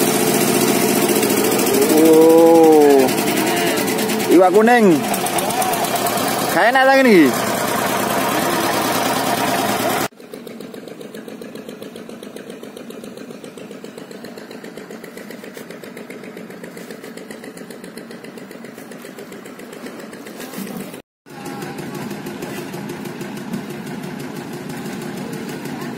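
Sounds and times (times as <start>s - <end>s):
engine idling with fast pulsing: 0.0s - 25.9s.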